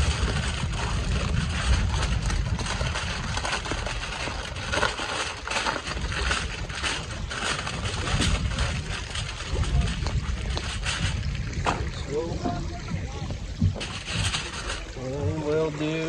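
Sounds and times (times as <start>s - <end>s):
aluminum foil crinkling: 0.0s - 12.0s, 13.8s - 15.1s
low rumble: 0.0s - 15.6s.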